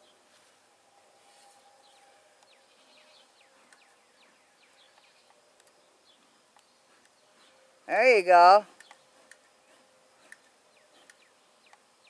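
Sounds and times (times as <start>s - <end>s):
bird chirping: 1.3s - 7.9s, 8.7s - 12.0s.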